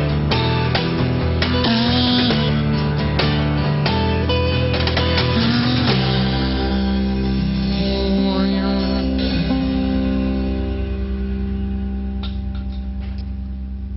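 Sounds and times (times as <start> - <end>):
acoustic guitars and bass chord ringing: 0.0 - 13.9.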